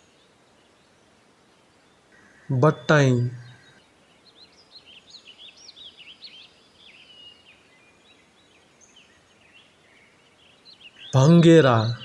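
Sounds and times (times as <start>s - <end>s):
bird chirps and twitters: 2.0s - 12.0s.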